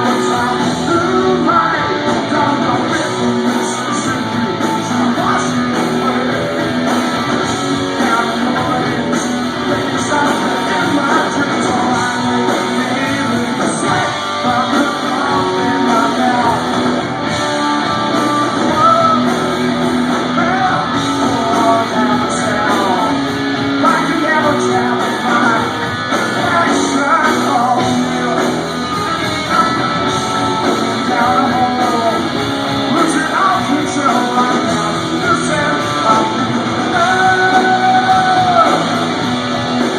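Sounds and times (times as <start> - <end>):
man singing: 0.0 - 39.9
rock band playing: 0.0 - 39.9.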